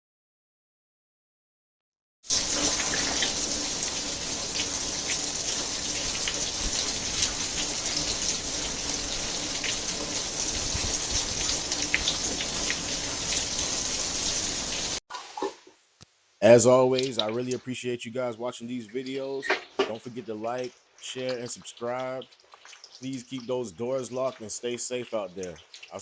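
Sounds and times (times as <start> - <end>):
steady rain falling: 2.3 - 15.0, 16.1 - 26.0.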